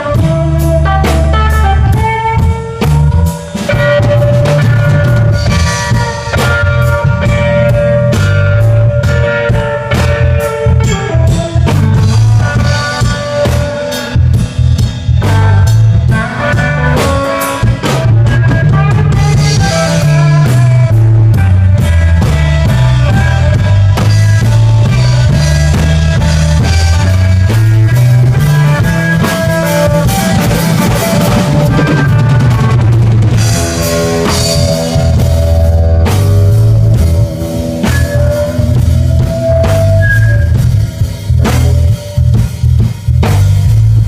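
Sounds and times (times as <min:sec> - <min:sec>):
bass guitar line: 0:00.0 - 0:44.0
drum kit: 0:00.0 - 0:44.0
electric guitar: 0:00.0 - 0:44.0.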